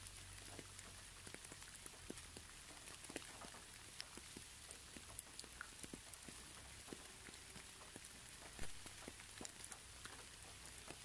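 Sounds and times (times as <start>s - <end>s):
rain hiss: 0.0s - 11.0s
raindrop ticks: 0.0s - 11.0s.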